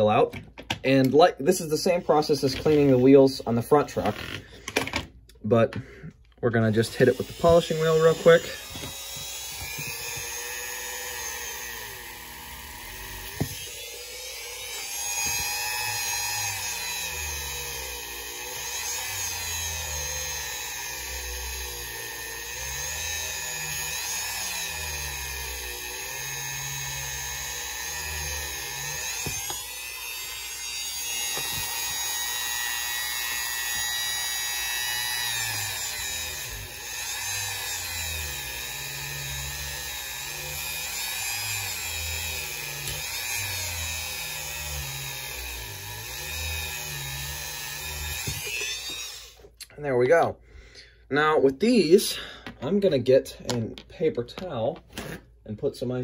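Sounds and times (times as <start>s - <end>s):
rotary tool whining while polishing metal: 1.6s - 4.8s, 6.6s - 49.6s.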